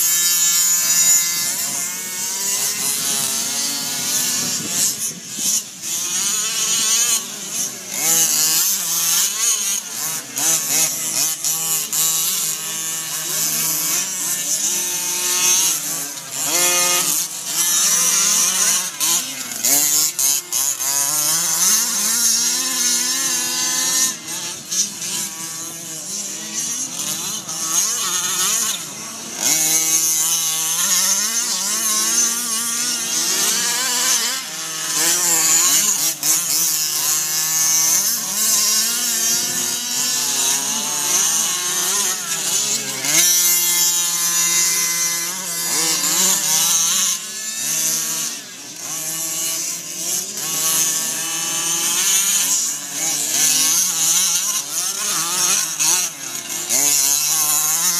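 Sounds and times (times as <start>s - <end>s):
small rc car engines revving: 0.0s - 57.9s.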